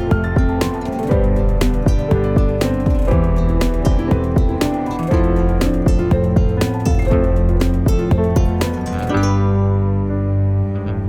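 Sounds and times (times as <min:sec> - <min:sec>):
plucked guitar over a beat: 0:00.0 - 0:10.1.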